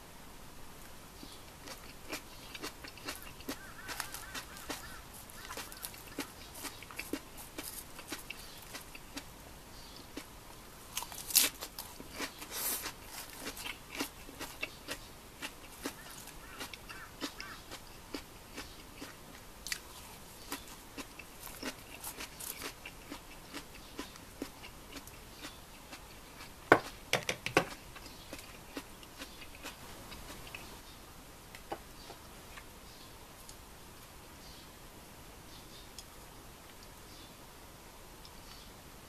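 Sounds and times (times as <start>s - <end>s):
crunching and chewing salad: 0.8s - 30.9s, 31.5s - 32.8s.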